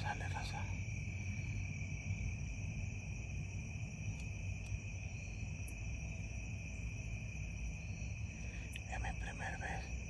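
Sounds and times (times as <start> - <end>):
crickets and insects chirring: 0.0 - 10.0
low steady rumble: 0.0 - 10.0.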